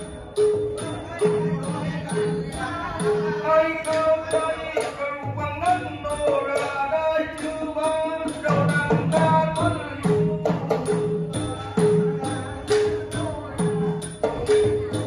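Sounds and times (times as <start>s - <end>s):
hand cymbals ticking: 0.0s - 15.0s
man chanting verse: 0.0s - 15.0s.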